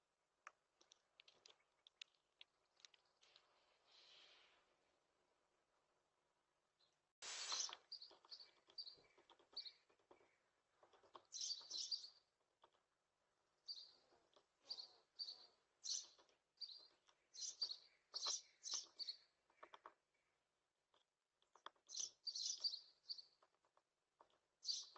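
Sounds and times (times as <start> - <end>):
small birds chirping: 0.4 - 5.1, 6.7 - 24.9.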